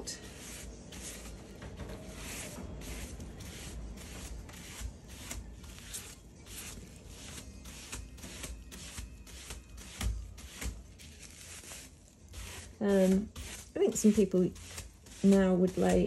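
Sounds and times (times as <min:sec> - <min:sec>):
brush swishing over damp paper: 0:00.0 - 0:16.0.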